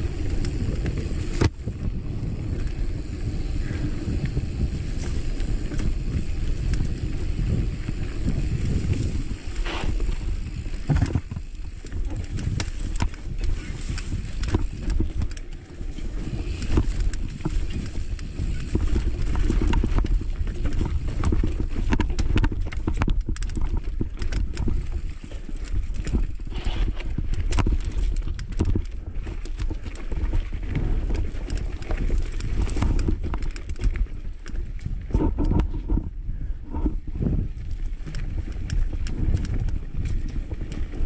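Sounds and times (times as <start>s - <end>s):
tyres rolling on dirt: 0.0s - 34.4s
bike rattling over rocks: 0.0s - 41.0s
wind on microphone: 0.0s - 41.0s.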